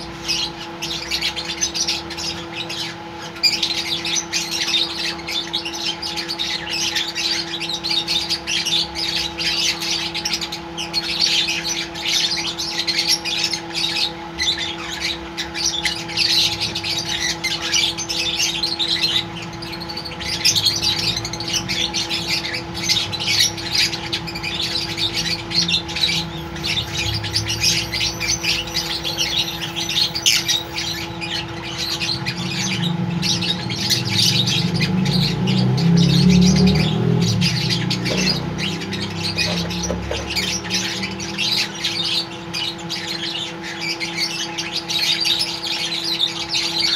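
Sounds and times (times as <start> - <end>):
birds chirping and squawking: 0.0 - 46.9
steady low hum: 0.0 - 46.9.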